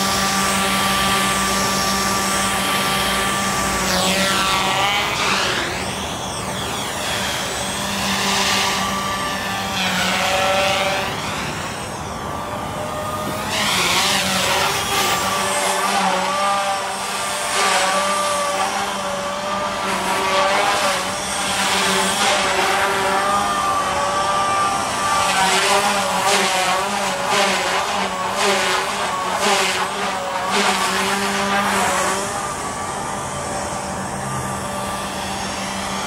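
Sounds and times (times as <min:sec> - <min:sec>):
quadcopter rotor buzz and whine: 0:00.0 - 0:36.0.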